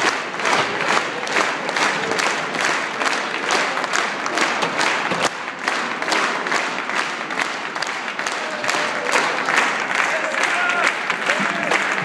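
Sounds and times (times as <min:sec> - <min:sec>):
crowd clapping in unison: 0:00.0 - 0:12.0.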